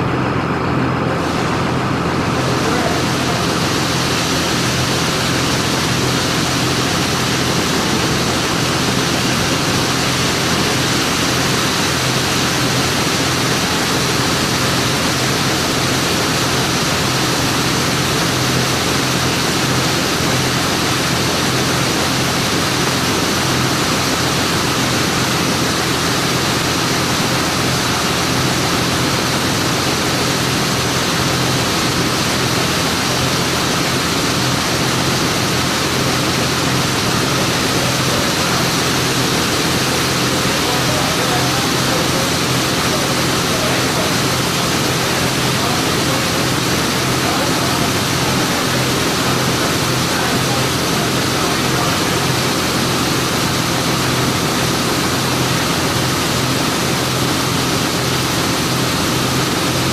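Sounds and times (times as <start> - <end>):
low engine drone: 0.0 - 59.9.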